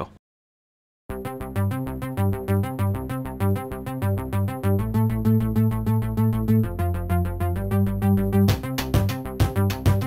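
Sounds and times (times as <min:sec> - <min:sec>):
synthesizer music with steady beat: 0:01.1 - 0:10.0.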